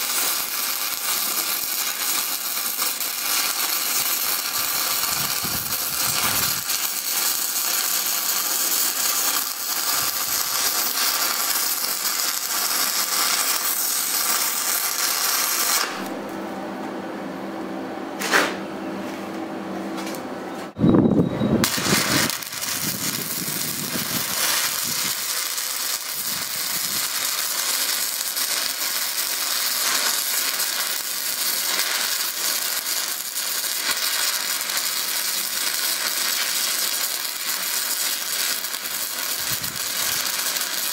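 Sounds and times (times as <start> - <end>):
welding arc crackling: 0.0 - 16.2, 21.5 - 40.9.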